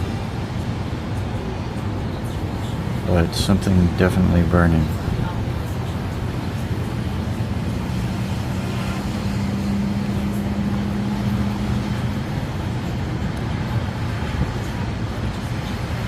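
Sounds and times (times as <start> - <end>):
city traffic rumble: 0.0 - 16.0
low engine hum: 0.0 - 16.0.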